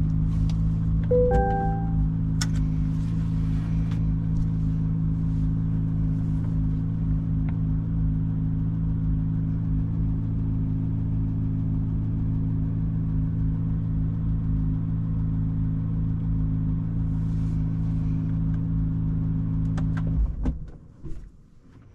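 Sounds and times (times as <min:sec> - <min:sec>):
car engine idling: 0:00.0 - 0:19.7.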